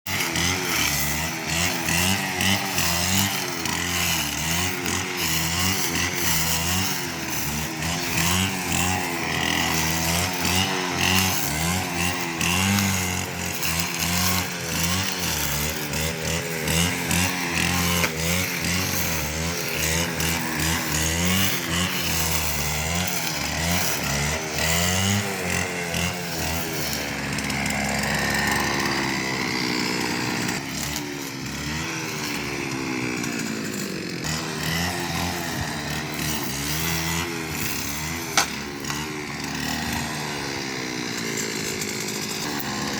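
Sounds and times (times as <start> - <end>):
brushcutter engine revving: 0.0 - 42.9.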